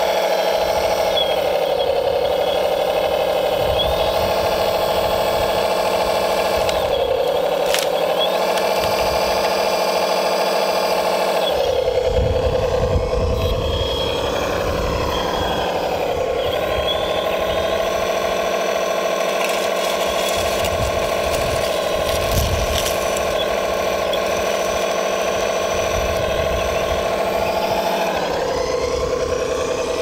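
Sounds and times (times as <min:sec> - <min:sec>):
hydraulic pump whining: 0:00.0 - 0:30.0.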